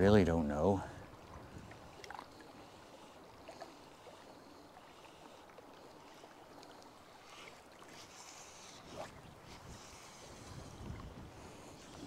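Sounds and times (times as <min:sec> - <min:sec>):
small waves lapping on rocks: 0:00.0 - 0:12.0.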